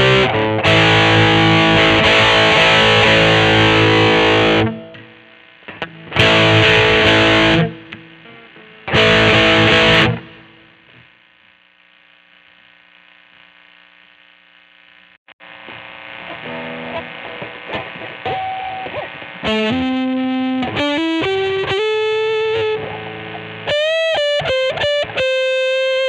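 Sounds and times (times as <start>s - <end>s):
distorted electric guitar: 0.0s - 13.0s, 14.1s - 26.0s.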